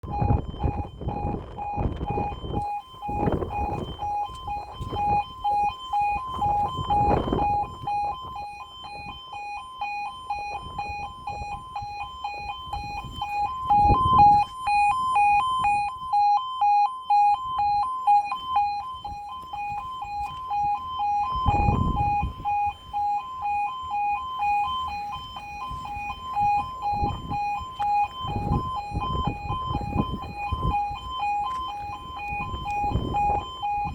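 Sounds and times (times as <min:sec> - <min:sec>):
two-tone level crossing alarm: 0:00.0 - 0:33.9.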